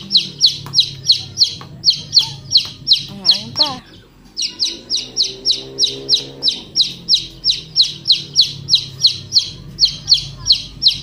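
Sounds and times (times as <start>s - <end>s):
small bird high chirps: 0.0s - 11.0s.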